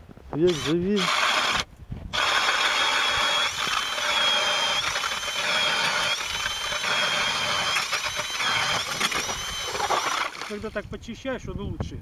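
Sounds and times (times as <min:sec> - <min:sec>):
cordless drill motor whine: 0:00.4 - 0:10.6
ice auger grinding: 0:00.4 - 0:10.7.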